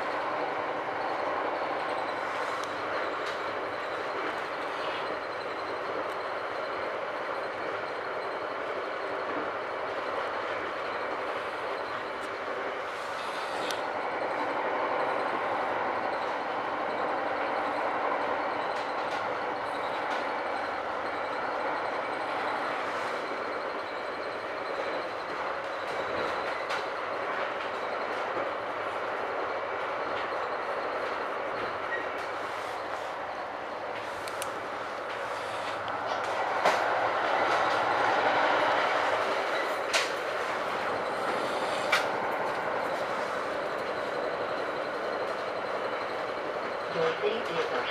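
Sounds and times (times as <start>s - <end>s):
rail car running noise: 0.0s - 47.9s.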